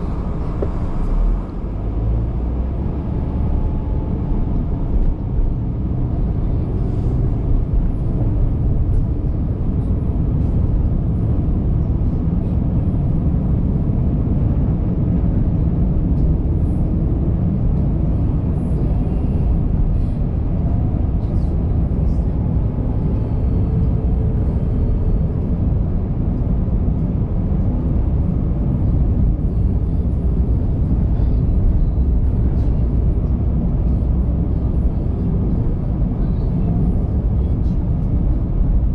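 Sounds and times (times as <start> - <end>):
car engine hum: 0.0 - 38.9
tyre and road noise: 0.0 - 38.9.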